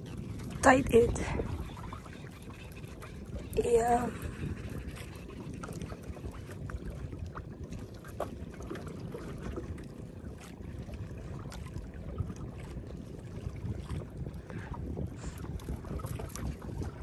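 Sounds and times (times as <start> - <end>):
water moving against boat: 0.0 - 17.0
wind rumbling on microphone: 0.0 - 17.0.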